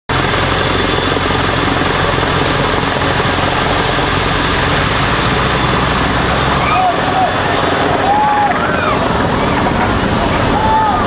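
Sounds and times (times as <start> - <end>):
loud engine running: 0.1 - 11.0.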